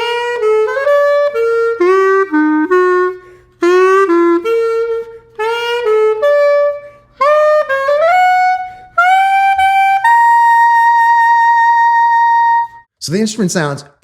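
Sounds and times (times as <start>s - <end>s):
plastic clarinet playing: 0.0s - 12.9s.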